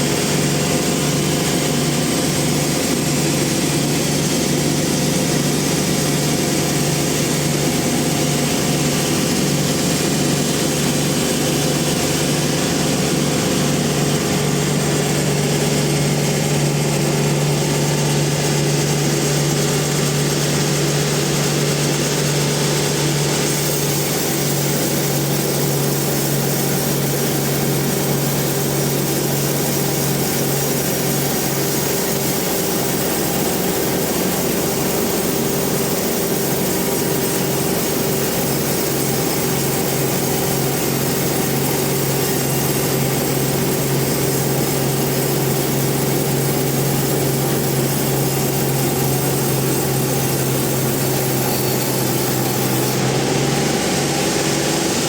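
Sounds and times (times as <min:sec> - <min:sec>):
band sawmill drone: 0:00.0 - 0:55.0.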